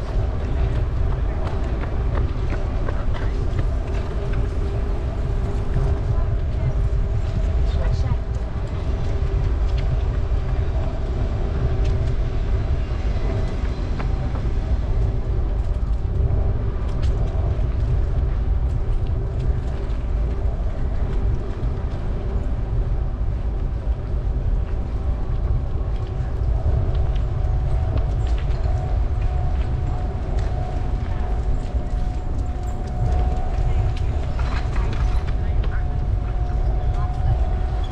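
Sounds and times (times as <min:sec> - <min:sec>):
outdoor ambience: 0:00.0 - 0:37.9
wind buffeting microphone: 0:00.0 - 0:37.9.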